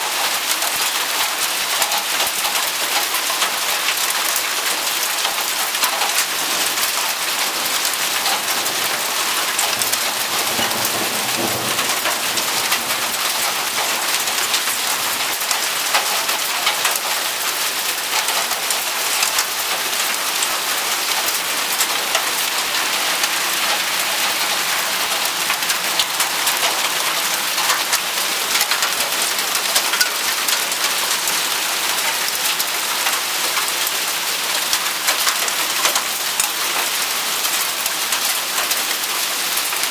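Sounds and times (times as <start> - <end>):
heavy rain on pavement and car: 0.0 - 39.9.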